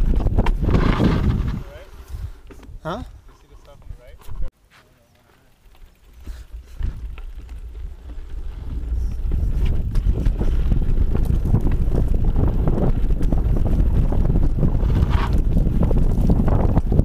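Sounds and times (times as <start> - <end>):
wind buffeting microphone: 0.0 - 4.5, 6.1 - 17.0
bike rattling over rough trail: 0.0 - 17.0.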